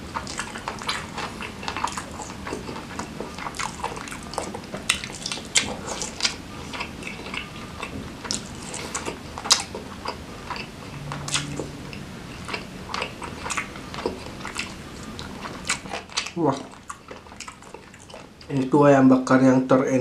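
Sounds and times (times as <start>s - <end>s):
chewing with wet mouth smacks: 0.0s - 18.7s.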